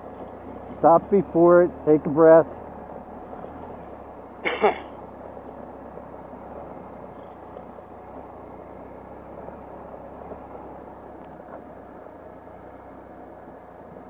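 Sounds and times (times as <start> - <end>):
motorcycle engine idling steadily: 0.0 - 14.0.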